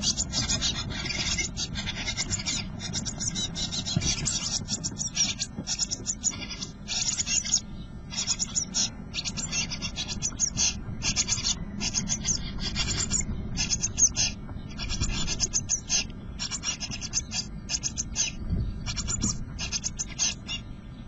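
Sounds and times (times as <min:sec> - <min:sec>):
scratching and rustling in nest: 0:00.0 - 0:20.6
nestlings begging calls: 0:00.0 - 0:21.0.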